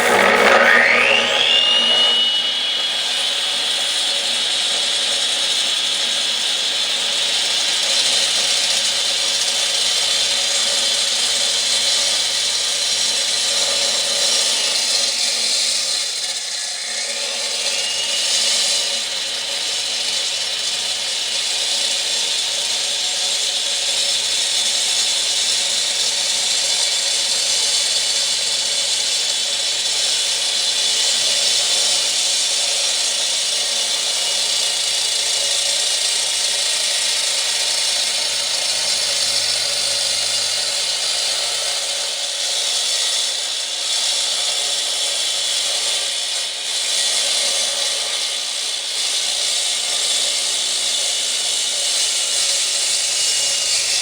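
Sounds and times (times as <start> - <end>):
power tool whining and cutting: 0.0 - 54.0.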